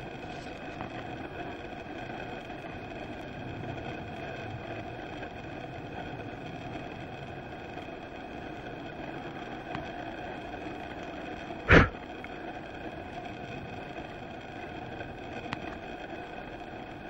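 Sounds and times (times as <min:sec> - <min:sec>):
engine-like hum: 0:00.0 - 0:17.0.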